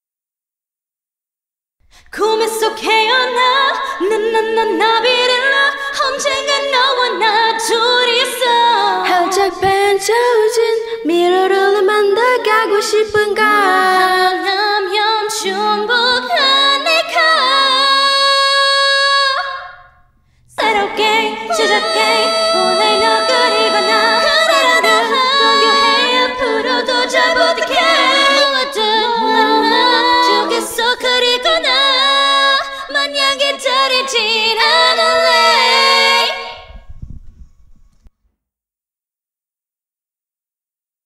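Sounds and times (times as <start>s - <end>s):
women singing a cappella: 2.1s - 36.8s.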